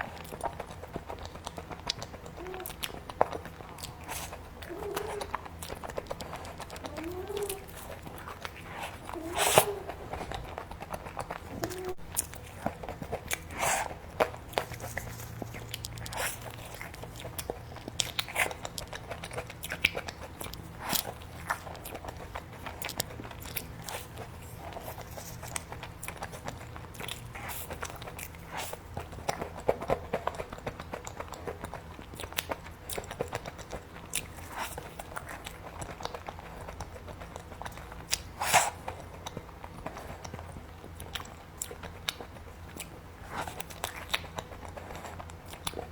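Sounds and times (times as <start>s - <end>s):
chewing: 0.0s - 45.9s.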